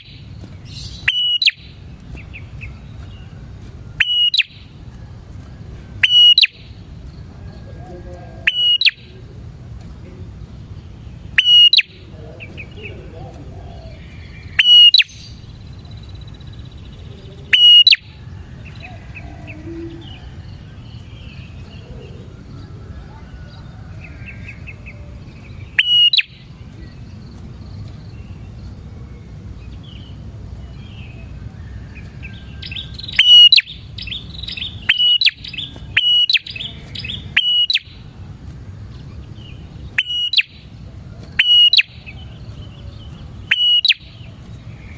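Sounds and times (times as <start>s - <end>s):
prinia bird chirping: 0.0s - 44.9s.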